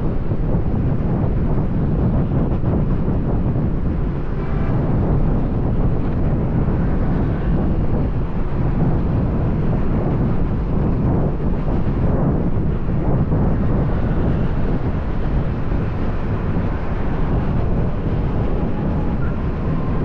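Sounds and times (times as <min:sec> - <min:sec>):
motorbike road noise: 0:00.0 - 0:20.0
wind buffeting microphone: 0:00.0 - 0:20.0.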